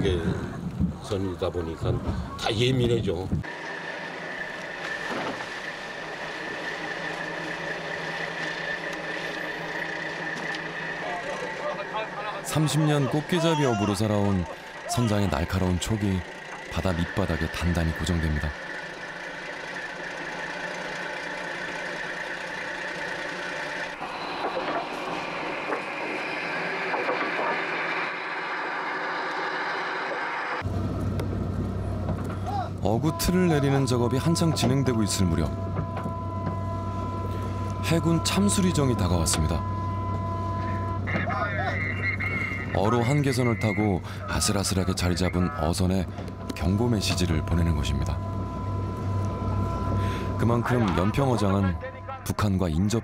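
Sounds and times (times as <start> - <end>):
boat engine droning: 0.0 - 53.0
steady high whine: 2.4 - 53.0.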